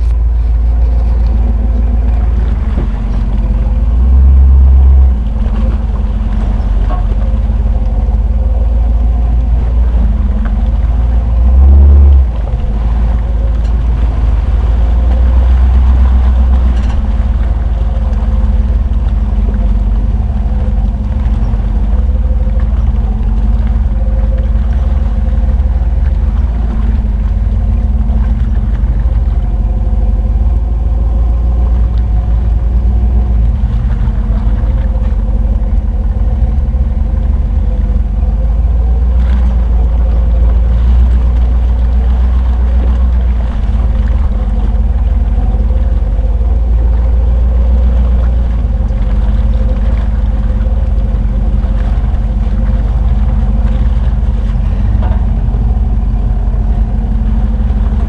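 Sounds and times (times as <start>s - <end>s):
car engine revving: 0.0s - 58.0s
tires churning through mud: 0.0s - 58.0s.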